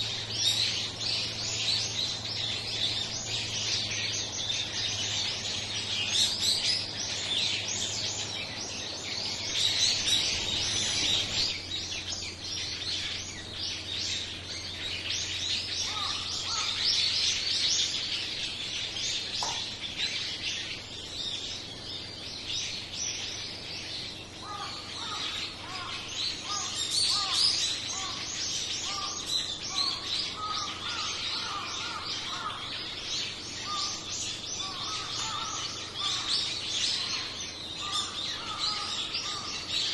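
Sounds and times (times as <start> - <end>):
lower repeated bird call: 0.0 - 39.9
small birds chirping: 0.0 - 39.9.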